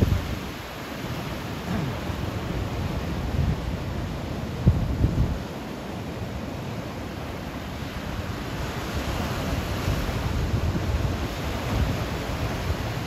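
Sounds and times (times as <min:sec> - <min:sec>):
ocean surf breaking over rocks: 0:00.0 - 0:13.0.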